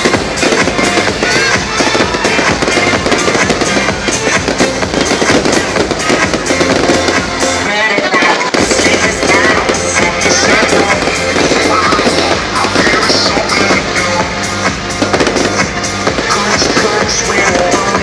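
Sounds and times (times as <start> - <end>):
fireworks crackling and banging: 0.0 - 18.0
loud music: 0.0 - 18.0.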